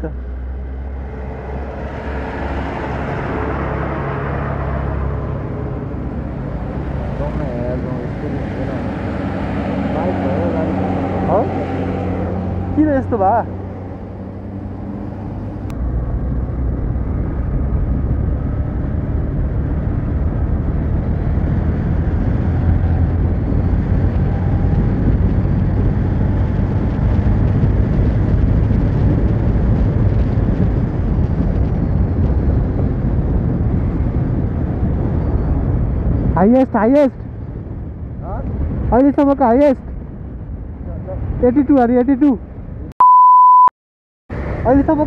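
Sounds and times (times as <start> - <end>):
wind rush on microphone: 0.1 - 42.9.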